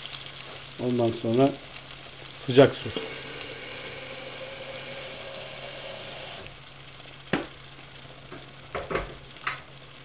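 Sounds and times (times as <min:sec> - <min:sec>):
rice sizzling in oil: 0:00.0 - 0:10.0.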